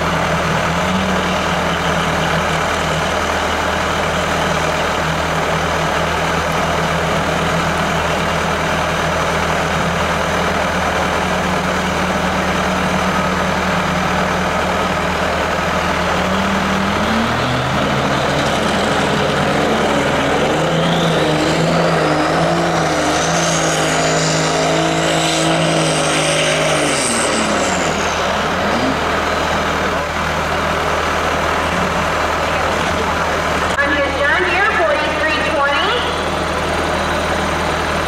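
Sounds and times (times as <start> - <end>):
tractor engine revving: 0.0 - 38.0.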